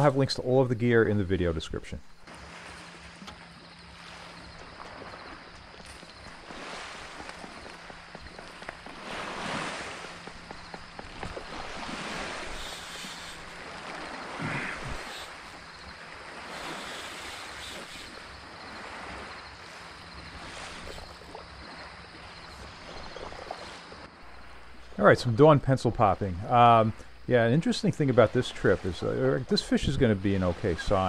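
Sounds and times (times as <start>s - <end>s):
small waves washing on shore: 2.2s - 31.0s.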